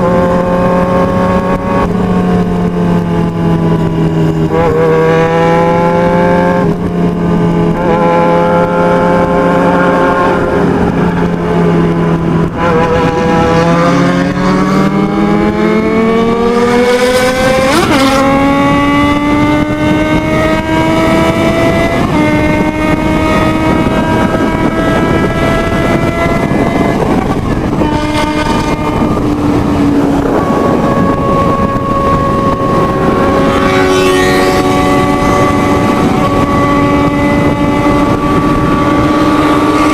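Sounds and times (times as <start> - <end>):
motorcycle engine at high speed: 0.0 - 39.9.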